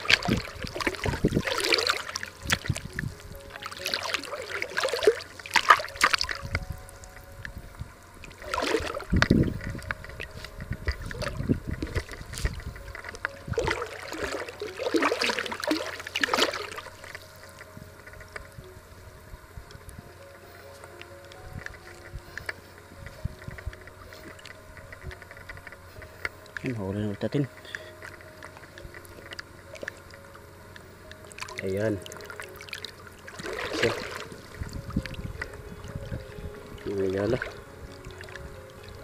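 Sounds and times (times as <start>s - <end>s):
seawater sloshing from wading: 0.0s - 7.3s, 8.1s - 19.0s, 21.5s - 39.0s.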